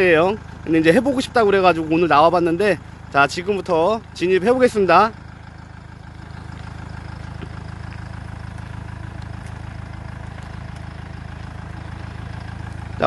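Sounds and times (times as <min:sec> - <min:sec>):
suv engine running: 0:00.0 - 0:13.0.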